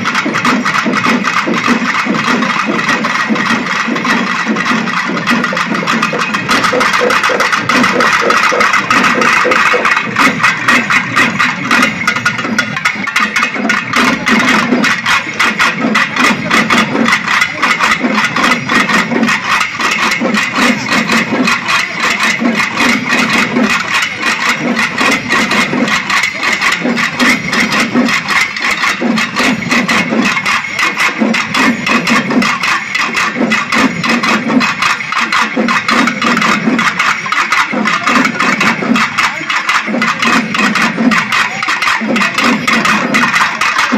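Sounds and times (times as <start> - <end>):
massed drums playing fast rhythm: 0.0 - 43.9.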